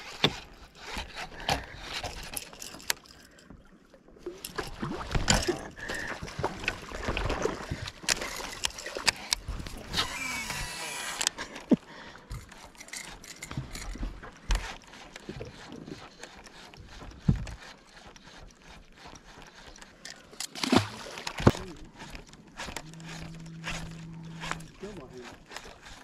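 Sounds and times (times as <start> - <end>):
knocks and clicks on boat: 0.0 - 3.1, 4.3 - 18.6, 19.2 - 26.0
water noise: 0.0 - 26.0.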